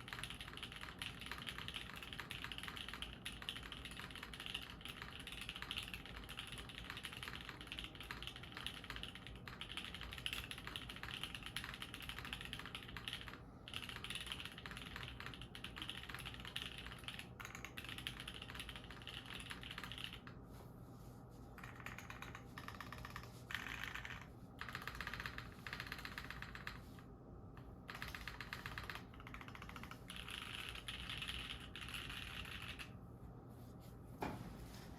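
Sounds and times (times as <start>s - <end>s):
mechanical keyboard typing: 0.0s - 20.4s, 21.6s - 27.0s, 27.6s - 33.0s.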